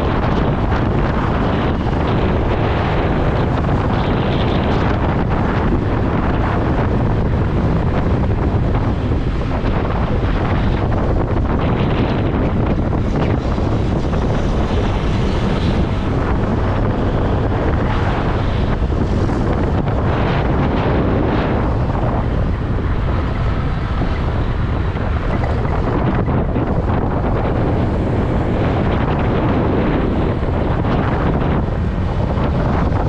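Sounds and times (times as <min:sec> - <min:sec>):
road noise: 0:00.0 - 0:33.0
wind buffeting microphone: 0:00.0 - 0:33.0.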